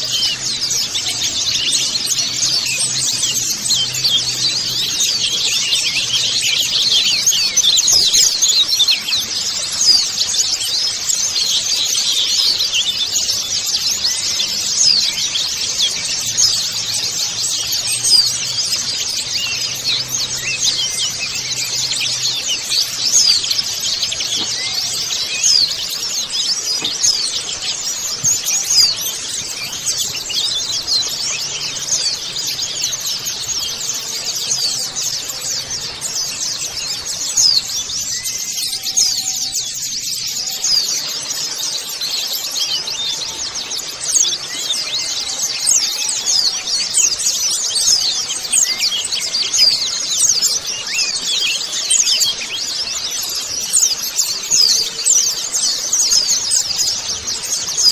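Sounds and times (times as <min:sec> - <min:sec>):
birds twittering in chorus: 0:00.0 - 0:57.9.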